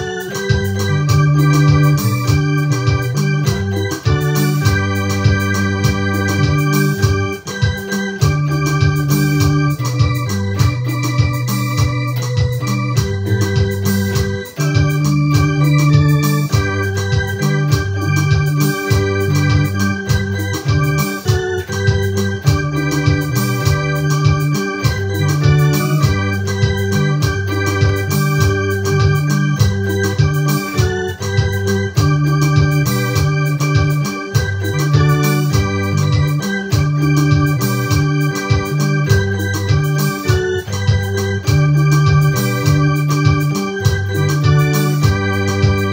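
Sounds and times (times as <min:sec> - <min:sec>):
keyboard playing organ gospel tune: 0:00.0 - 0:45.9.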